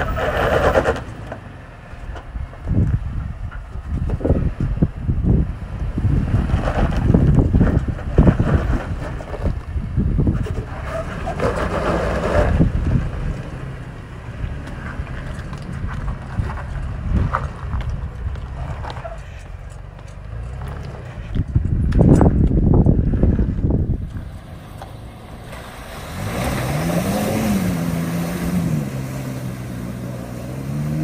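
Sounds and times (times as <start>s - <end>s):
vehicle engine crawling: 0.0s - 31.0s
wind buffeting microphone: 2.0s - 29.6s.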